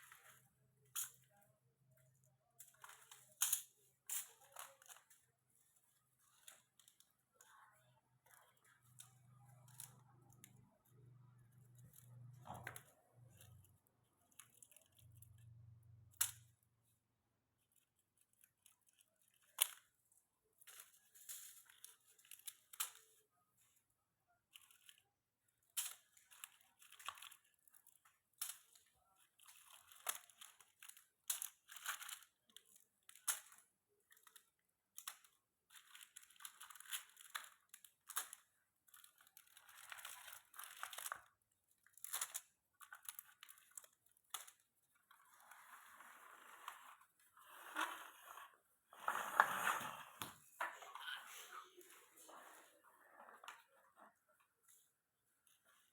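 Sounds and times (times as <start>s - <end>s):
candy wrappers crinkling: 0.0s - 16.6s, 17.5s - 55.9s.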